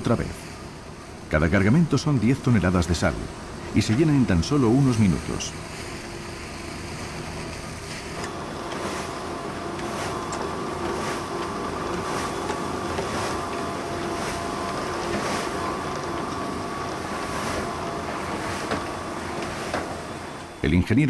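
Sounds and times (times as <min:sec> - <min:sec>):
machine mechanical drone: 0:00.0 - 0:20.9.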